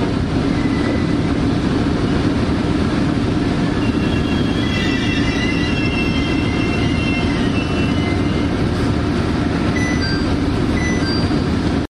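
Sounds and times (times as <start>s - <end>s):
diesel railcar rumble: 0.0s - 11.9s.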